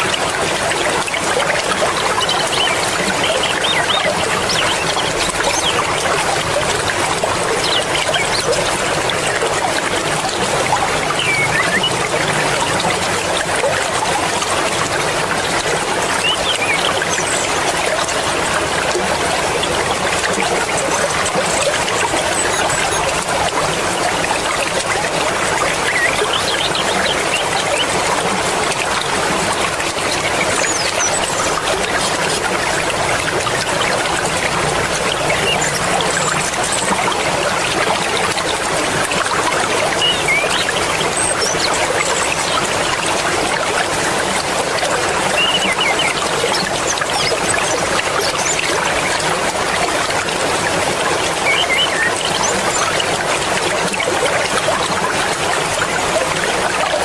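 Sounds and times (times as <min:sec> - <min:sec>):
river rushing and babbling: 0:00.0 - 0:57.0.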